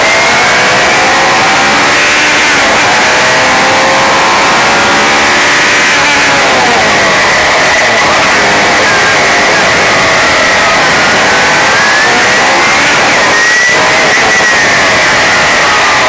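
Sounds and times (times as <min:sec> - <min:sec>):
racing car engine accelerating: 0:00.0 - 0:16.0
wind noise: 0:00.0 - 0:16.0.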